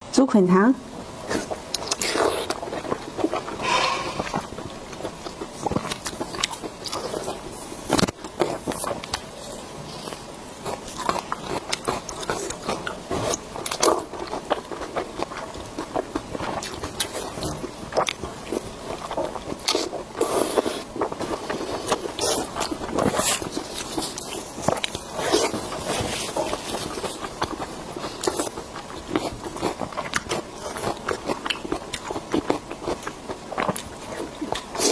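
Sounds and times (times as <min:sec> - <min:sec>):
biting and chewing food: 0:01.2 - 0:34.9.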